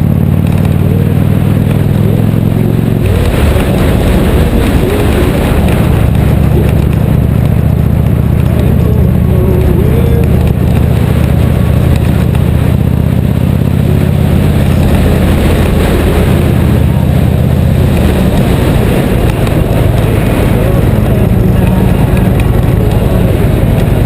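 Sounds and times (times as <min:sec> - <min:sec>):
loud rushing noise: 0:00.0 - 0:24.0
motorcycle engine running: 0:00.0 - 0:24.0.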